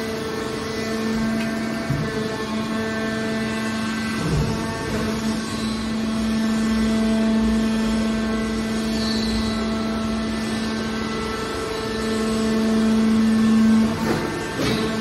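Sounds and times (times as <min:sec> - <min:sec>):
scrap metal baler humming: 0:00.0 - 0:15.0.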